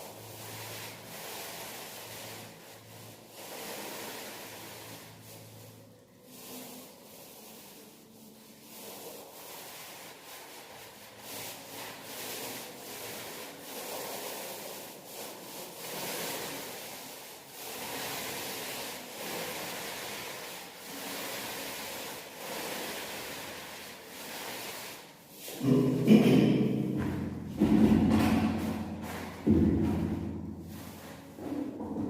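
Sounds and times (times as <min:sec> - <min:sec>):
paint brushing on a wall: 0:00.0 - 0:32.0.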